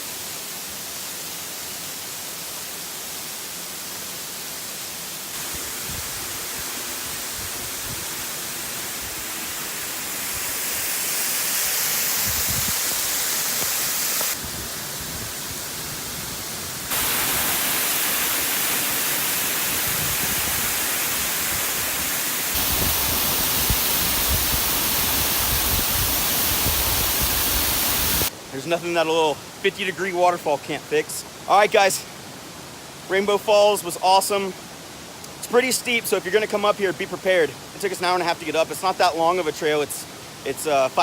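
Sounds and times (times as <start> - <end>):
waterfall pouring and splashing: 0.0 - 41.0.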